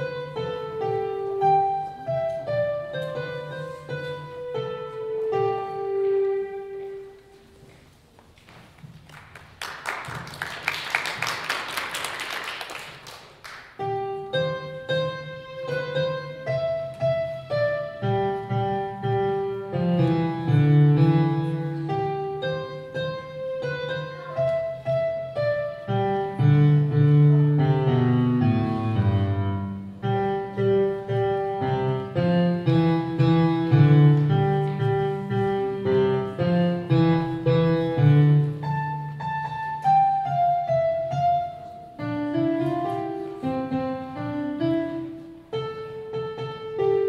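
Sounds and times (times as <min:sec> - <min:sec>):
electronic keyboard piano melody: 0:00.0 - 0:07.2, 0:13.7 - 0:47.0.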